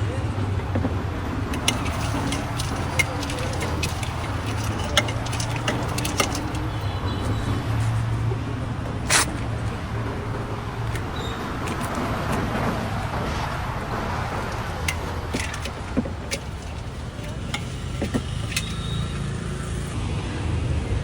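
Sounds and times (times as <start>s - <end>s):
passing traffic rumble: 0.0s - 21.0s
sharp clicks and knocks: 0.7s - 19.3s.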